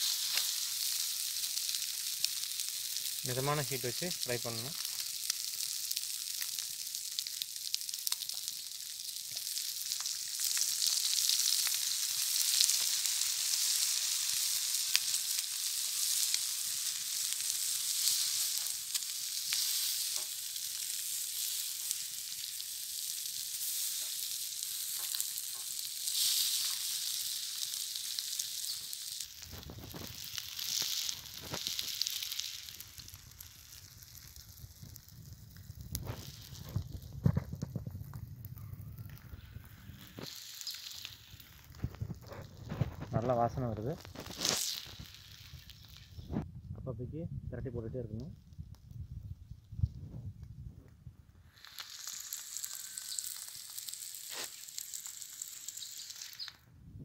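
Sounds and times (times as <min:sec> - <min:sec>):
eggs sizzling in oil: 0:00.0 - 0:46.4, 0:51.4 - 0:56.6.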